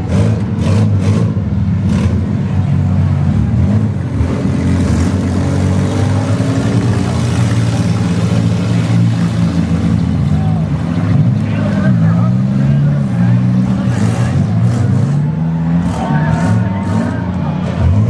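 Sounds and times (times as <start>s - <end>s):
several car engines revving: 0.0s - 18.0s.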